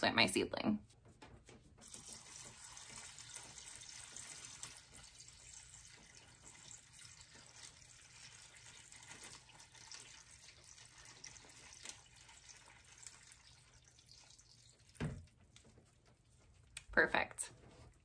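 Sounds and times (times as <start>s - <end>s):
water trickling onto pebbles: 1.8s - 18.0s.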